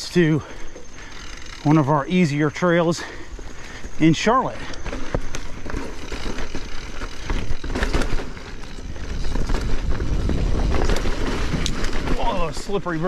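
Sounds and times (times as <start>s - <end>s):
bike knocking and rattling: 0.0s - 13.0s
bike tyres rolling on dirt: 0.0s - 13.0s.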